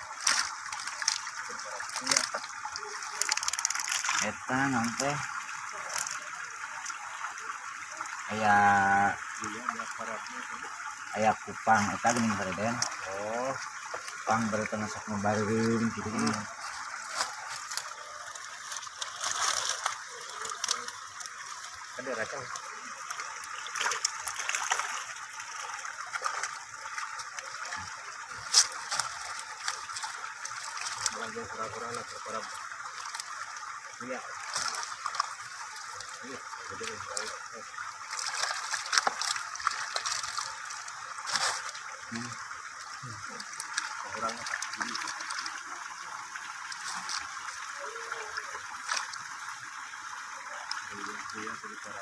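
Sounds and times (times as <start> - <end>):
water splashing and dripping: 0.0 - 52.0.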